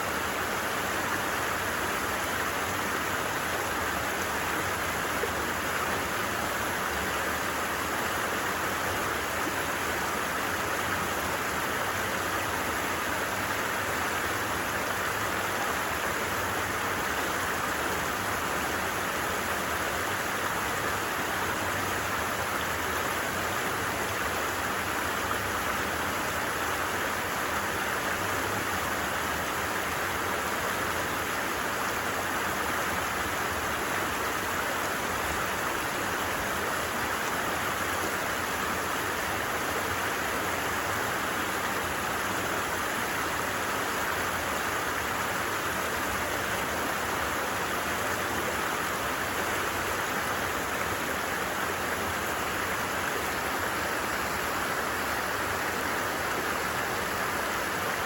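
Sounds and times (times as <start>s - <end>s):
creek water running over stones: 0.0s - 58.0s.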